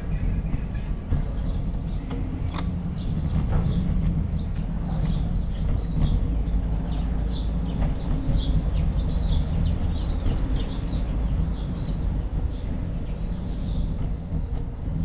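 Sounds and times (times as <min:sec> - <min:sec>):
birds chirping: 0:00.0 - 0:15.0
wind and road noise: 0:00.0 - 0:15.0.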